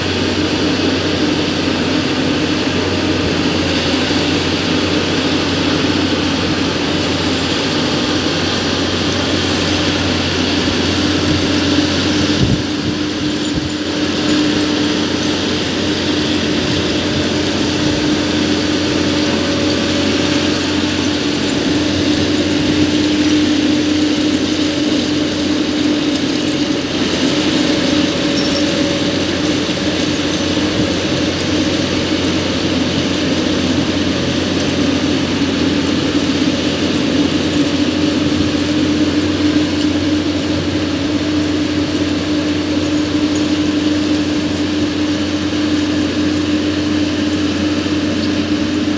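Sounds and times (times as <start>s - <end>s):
machine hum with mechanical clatter: 0.0s - 48.9s.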